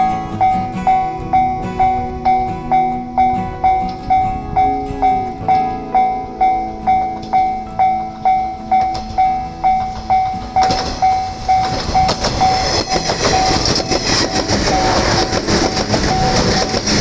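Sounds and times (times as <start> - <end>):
level crossing alarm bell ringing: 0.0 - 17.0
train running past: 0.0 - 17.0.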